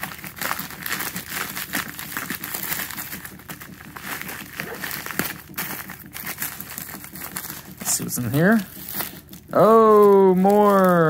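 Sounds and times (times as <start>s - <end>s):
bubble mailer crinkling torn open: 0.0s - 11.0s.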